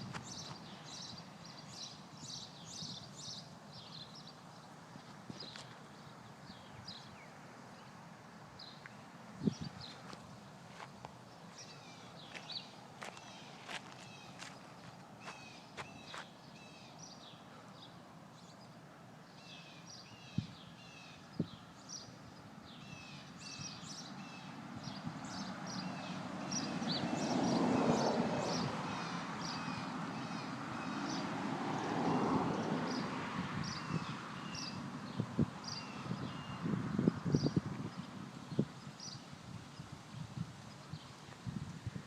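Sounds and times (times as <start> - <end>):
small birds chirping: 0.0 - 31.3, 32.5 - 41.4.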